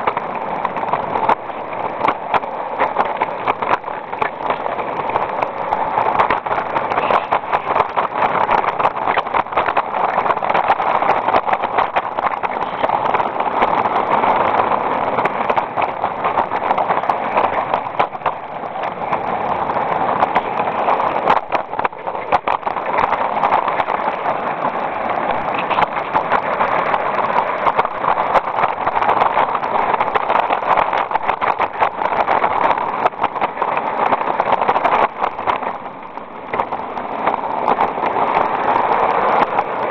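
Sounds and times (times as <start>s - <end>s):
wheels clicking on rails: 0.0s - 39.9s.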